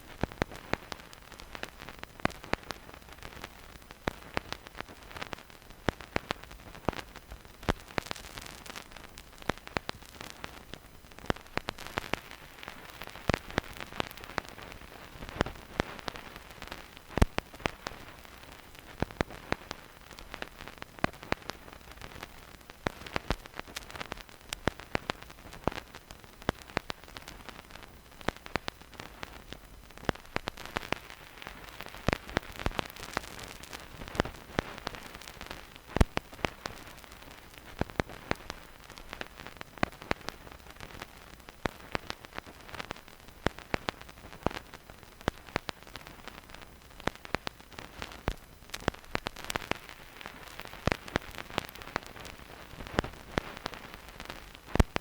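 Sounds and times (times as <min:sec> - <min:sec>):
vinyl crackles and pops: 0:00.0 - 0:55.0
vinyl record hiss: 0:00.0 - 0:55.0.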